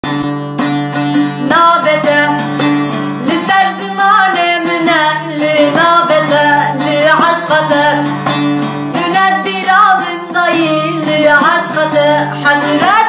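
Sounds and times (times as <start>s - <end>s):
plucked acoustic guitar: 0.0s - 13.0s
woman singing: 1.3s - 13.0s.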